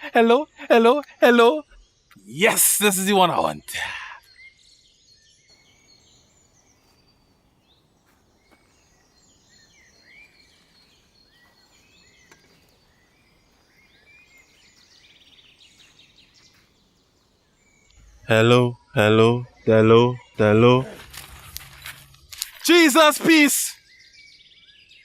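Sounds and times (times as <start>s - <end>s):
birds chirping and whistling: 1.6s - 25.0s.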